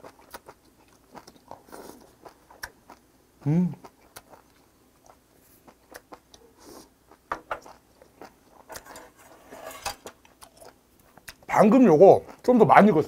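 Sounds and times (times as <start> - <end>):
chewing with mouth clicks: 0.0 - 8.8, 10.2 - 11.5, 12.2 - 12.6.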